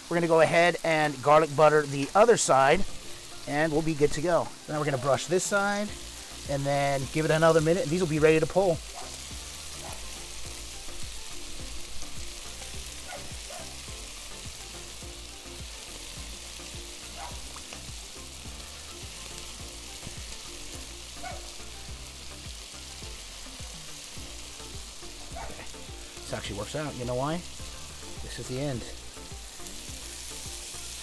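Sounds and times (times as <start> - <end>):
chicken sizzling on griddle: 0.0 - 31.0.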